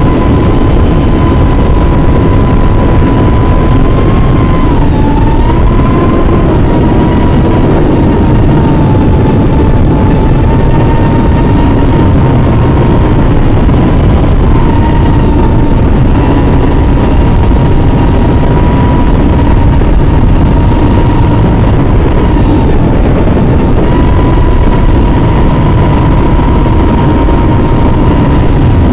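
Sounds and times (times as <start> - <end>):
drone motors whining: 0.0 - 28.9.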